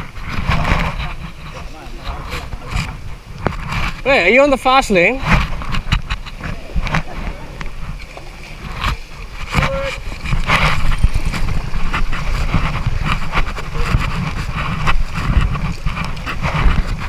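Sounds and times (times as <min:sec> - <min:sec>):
river water rushing and splashing: 0:00.0 - 0:17.0
wind buffeting microphone: 0:00.0 - 0:17.0.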